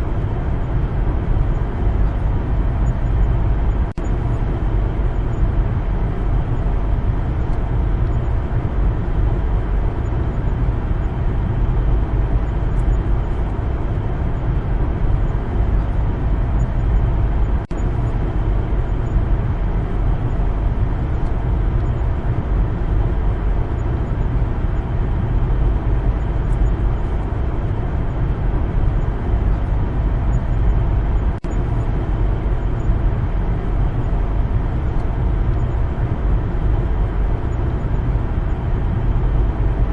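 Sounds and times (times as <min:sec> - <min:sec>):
car driving on road rumble: 0:00.0 - 0:39.9.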